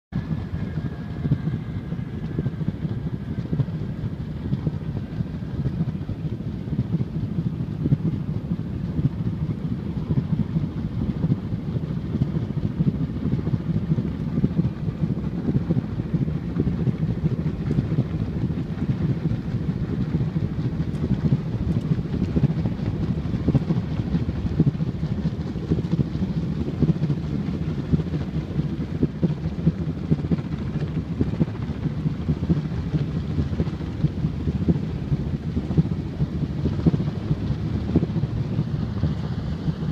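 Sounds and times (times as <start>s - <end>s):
vehicle rumble: 0.1s - 39.9s
wind buffeting microphone: 0.2s - 39.9s.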